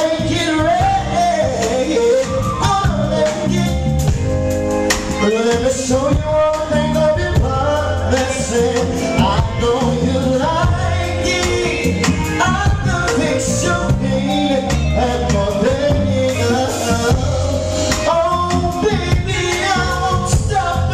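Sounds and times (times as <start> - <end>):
band with drums and bass: 0.0 - 20.9
man singing: 0.0 - 20.9.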